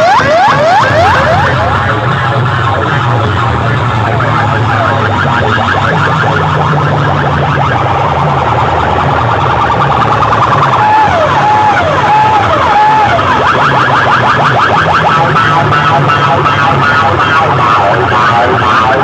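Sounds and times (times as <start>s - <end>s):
deep bass drone: 0.0s - 19.0s
siren-like electronic effect: 0.0s - 19.0s.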